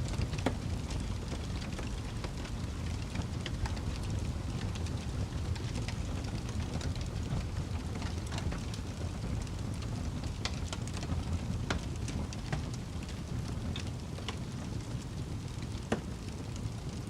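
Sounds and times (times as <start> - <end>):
fire crackling and popping: 0.0 - 17.0
rumble of flames: 0.0 - 17.0.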